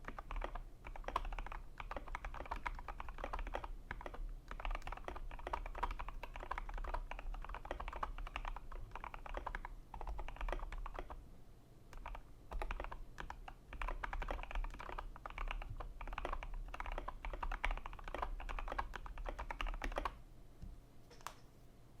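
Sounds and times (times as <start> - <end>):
mechanical keyboard typing: 0.0 - 11.2, 11.9 - 20.2.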